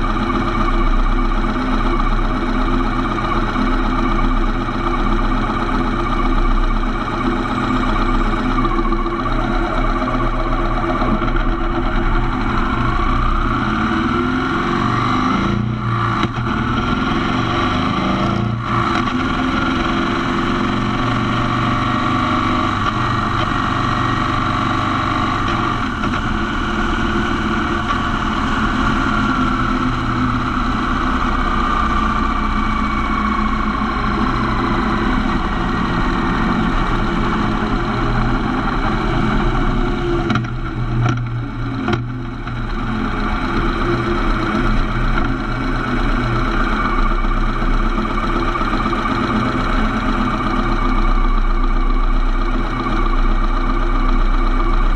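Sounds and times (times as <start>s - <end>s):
motorcycle engine running: 0.0s - 54.9s
road noise: 0.0s - 54.9s
wind: 0.0s - 54.9s.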